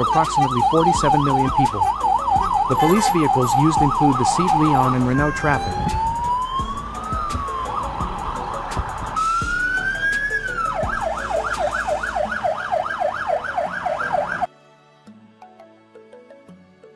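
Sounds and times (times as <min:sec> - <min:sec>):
police siren wailing and yelping: 0:00.0 - 0:14.5
faint music: 0:00.0 - 0:16.9.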